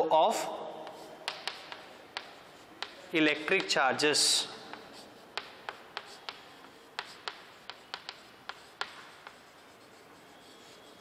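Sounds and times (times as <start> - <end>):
chalk tapping and scratching: 0.4 - 11.0.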